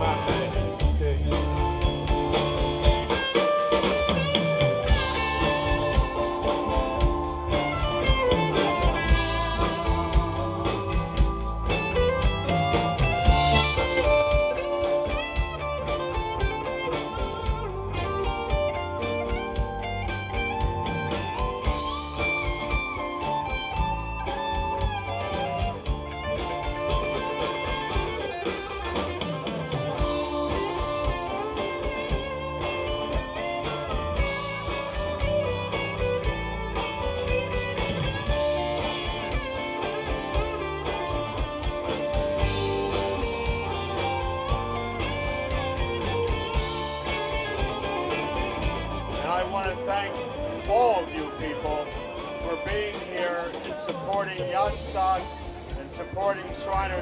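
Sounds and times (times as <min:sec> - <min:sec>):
bluesy guitar band music: 0:00.0 - 0:57.0
drums keeping steady beat: 0:00.0 - 0:57.0.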